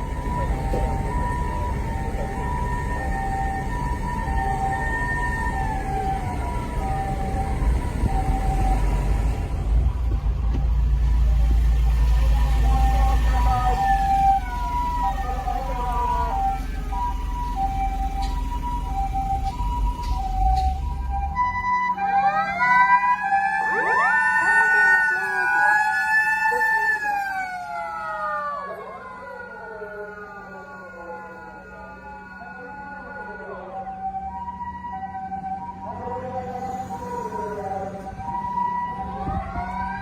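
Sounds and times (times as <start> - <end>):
low engine rumble: 0.0 - 24.1, 26.3 - 40.0
two-tone ambulance siren: 0.0 - 40.0
wailing sirens: 0.0 - 40.0.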